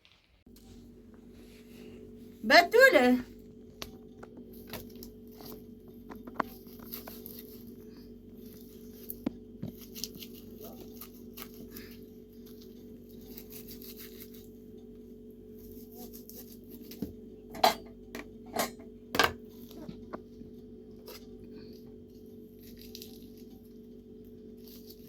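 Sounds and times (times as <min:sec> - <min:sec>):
steady low hum: 0:00.4 - 0:25.0.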